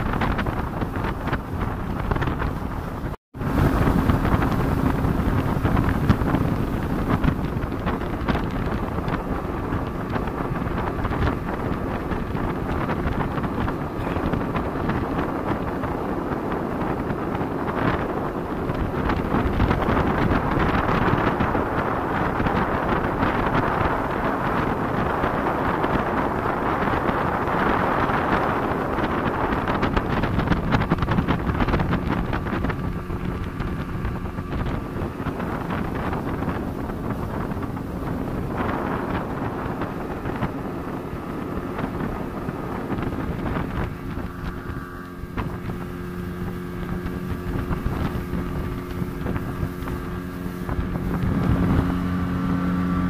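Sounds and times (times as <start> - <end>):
speedboat engine running: 0.0 - 53.0
water rushing along boat hull: 0.0 - 53.0
wind buffeting microphone: 0.0 - 53.0.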